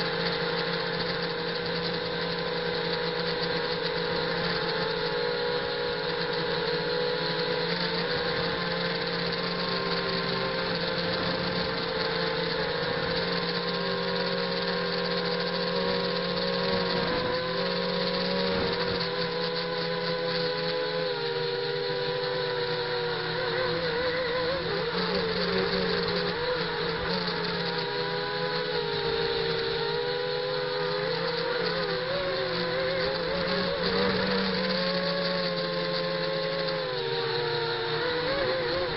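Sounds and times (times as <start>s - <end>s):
quadcopter propellers whining: 0.0s - 38.9s.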